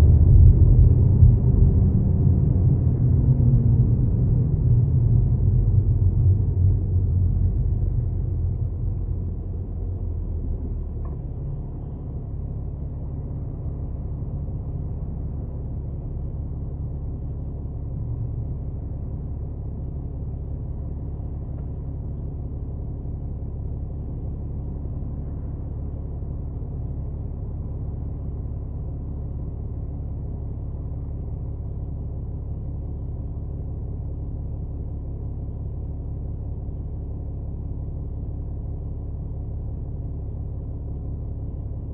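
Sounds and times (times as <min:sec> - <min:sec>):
car droning rumble and hum: 0:00.0 - 0:41.9.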